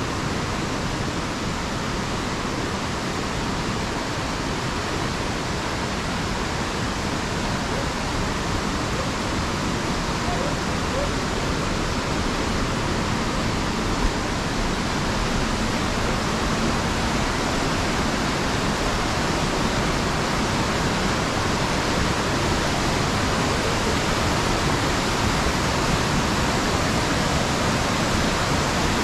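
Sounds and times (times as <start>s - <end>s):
fast-flowing mountain water: 0.0s - 29.0s.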